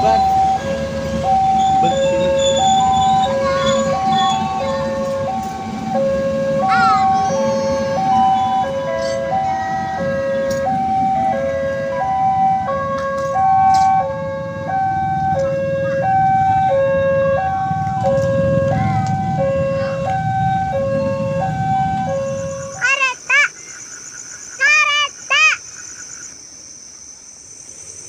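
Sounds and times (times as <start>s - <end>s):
level crossing two-tone alarm: 0.0s - 23.1s.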